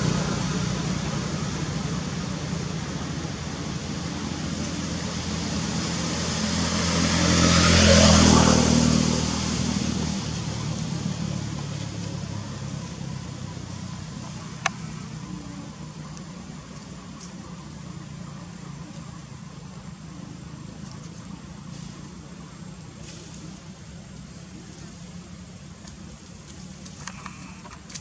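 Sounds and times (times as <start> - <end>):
motor vehicle passing by: 0.0 - 25.4.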